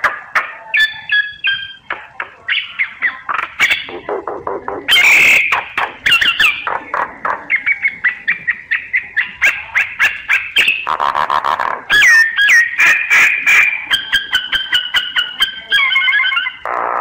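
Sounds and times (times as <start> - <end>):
harsh rattling bird chatter: 0.3 - 4.2, 4.9 - 16.7
myna chirps and whistles: 0.4 - 4.2, 4.9 - 17.0.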